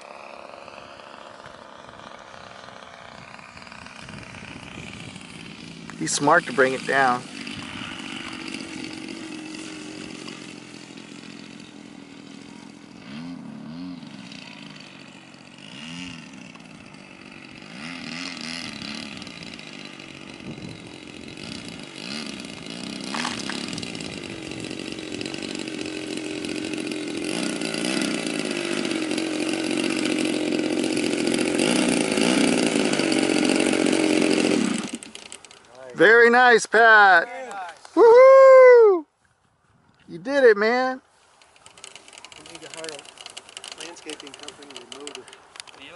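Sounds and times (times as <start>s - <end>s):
model plane engine running: 0.0s - 36.4s, 41.4s - 45.9s.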